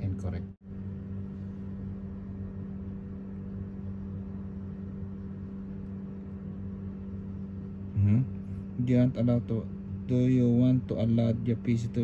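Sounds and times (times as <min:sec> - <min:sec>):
steady low appliance hum: 0:00.0 - 0:12.0.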